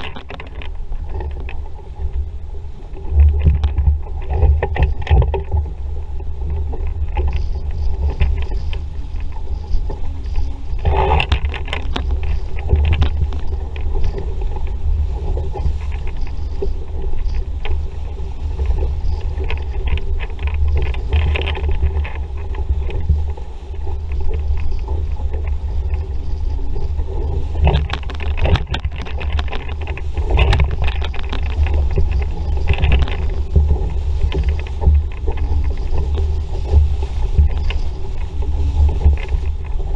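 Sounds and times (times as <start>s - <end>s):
water rushing along boat hull: 0.0s - 39.9s
wind buffeting microphone: 0.0s - 39.9s.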